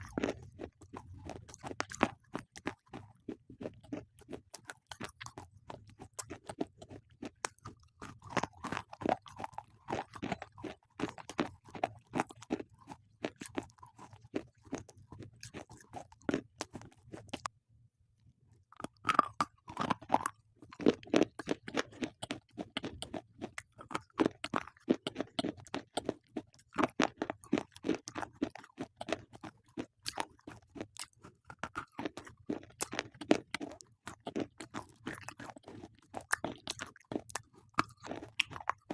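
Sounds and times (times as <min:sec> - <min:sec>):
chewing with brittle crunches: 0:00.0 - 0:17.5, 0:18.5 - 0:38.9.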